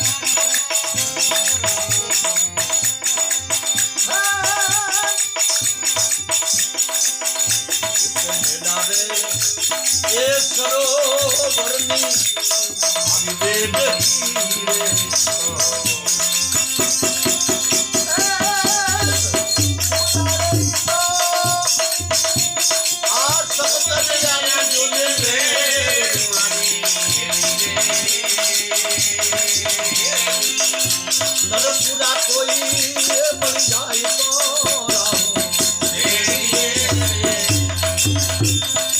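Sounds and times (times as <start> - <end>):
fast hand percussion: 0.0 - 38.9
person singing: 4.0 - 5.6, 8.2 - 22.4, 23.0 - 38.5.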